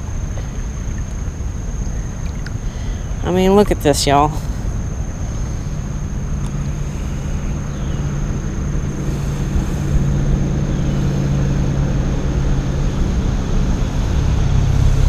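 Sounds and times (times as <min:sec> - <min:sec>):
distant engine drone: 0:00.0 - 0:15.0
thin high whine: 0:00.0 - 0:15.0
wind rumbling on microphone: 0:00.0 - 0:15.0.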